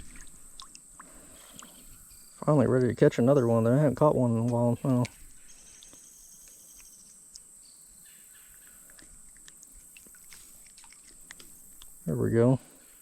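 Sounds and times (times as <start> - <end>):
high-pitched insect chorus: 0.1 - 10.7.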